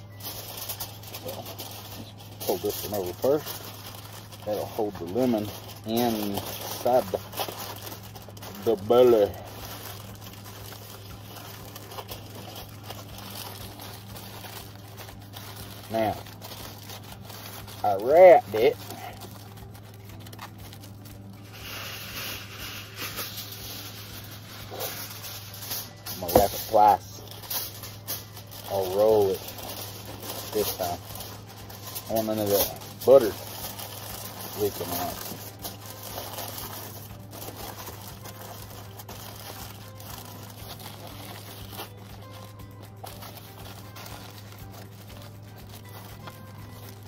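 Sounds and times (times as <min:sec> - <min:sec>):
aluminum foil crinkling: 0:00.0 - 0:47.0.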